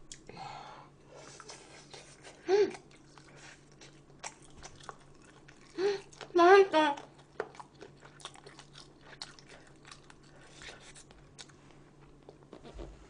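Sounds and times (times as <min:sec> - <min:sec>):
person chewing: 0:01.2 - 0:06.4, 0:07.0 - 0:12.6.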